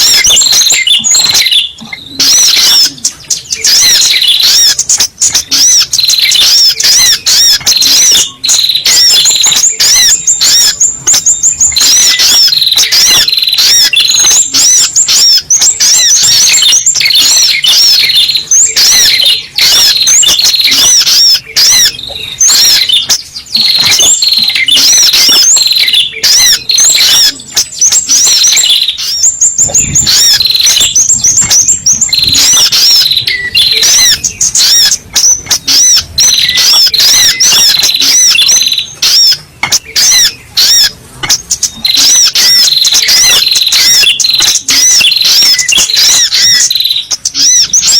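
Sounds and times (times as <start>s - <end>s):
fast high bird chirps: 0.0s - 47.9s.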